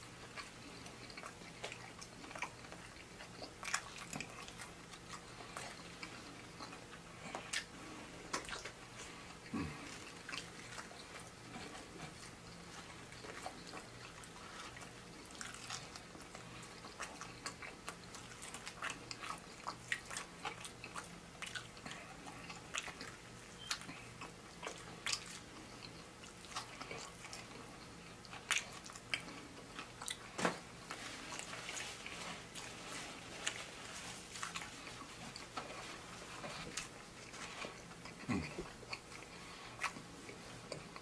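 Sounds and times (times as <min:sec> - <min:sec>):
person chewing with mouth smacks: 0:00.0 - 0:41.0.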